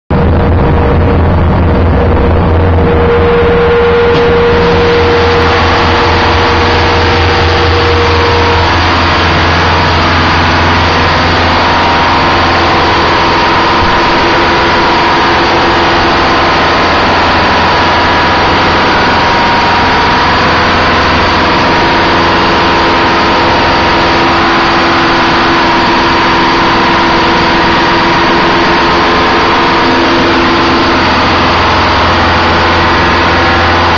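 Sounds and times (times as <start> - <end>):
diesel engine running: 0.1 - 33.9
engine hiss: 1.8 - 33.9.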